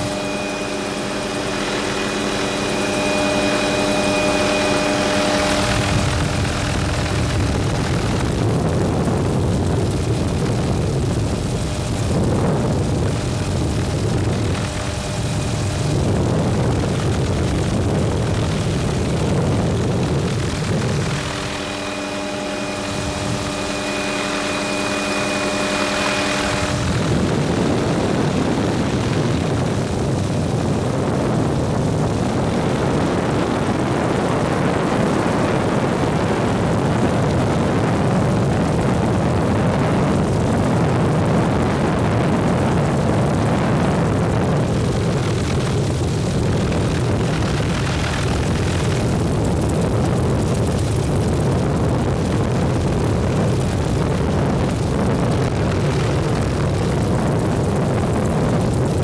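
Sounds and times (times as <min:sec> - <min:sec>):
helicopter engine and rotor noise: 0:00.0 - 0:59.0
humming note with high whine: 0:00.0 - 0:59.0.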